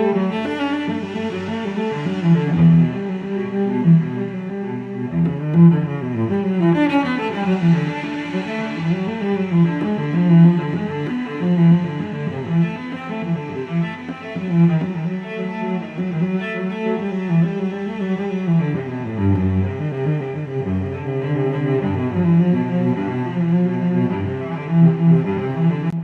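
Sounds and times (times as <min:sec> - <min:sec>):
bowed string melody: 0:00.0 - 0:26.0.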